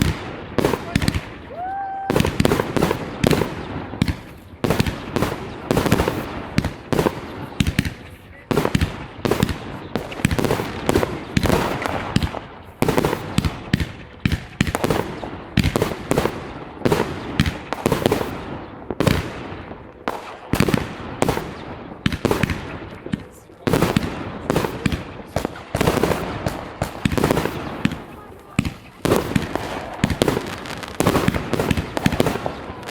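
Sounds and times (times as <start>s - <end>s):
fireworks banging and crackling: 0.0s - 32.9s.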